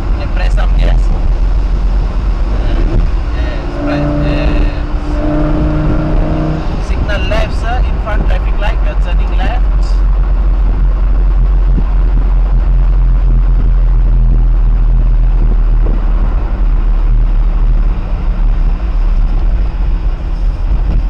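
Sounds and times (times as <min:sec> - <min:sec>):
car engine cruising low drone: 0:00.0 - 0:21.0
road rumble: 0:00.0 - 0:21.0.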